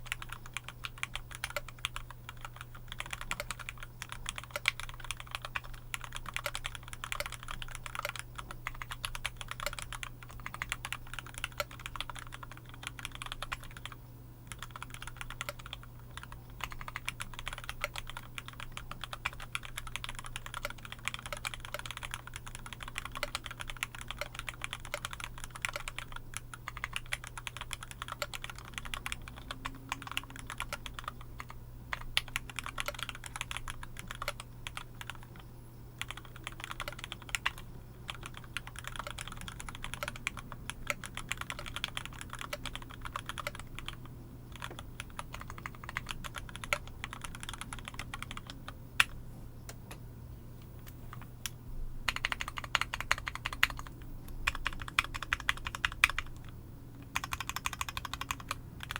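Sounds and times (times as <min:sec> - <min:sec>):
fast typing on mechanical keyboard: 0:00.0 - 0:35.4, 0:36.0 - 0:49.2, 0:52.1 - 0:58.9.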